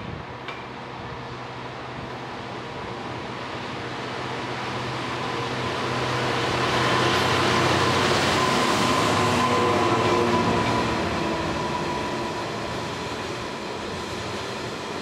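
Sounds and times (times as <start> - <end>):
locomotive diesel engine droning: 1.1 - 14.9.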